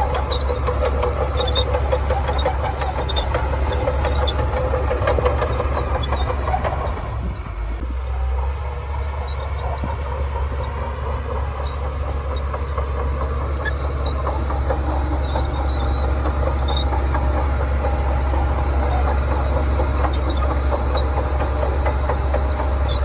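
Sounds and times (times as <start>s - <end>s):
steel tracks clattering: 0.0s - 7.8s, 8.5s - 23.0s
bulldozer diesel engine droning: 0.0s - 23.0s.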